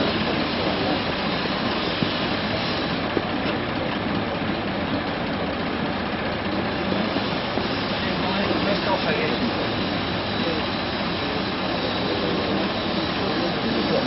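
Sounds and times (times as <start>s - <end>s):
fire hose spraying water: 0.0s - 14.0s.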